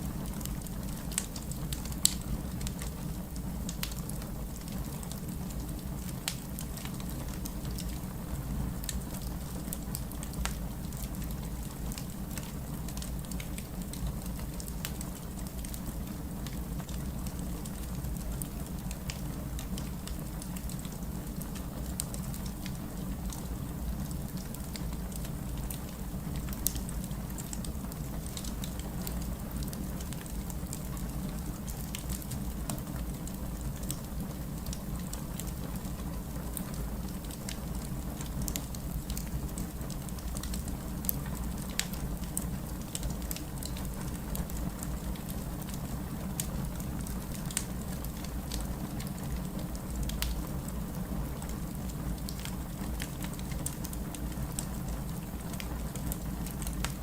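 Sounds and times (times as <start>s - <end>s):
fireplace crackling: 0.0s - 57.0s
low fire rumble: 0.0s - 57.0s.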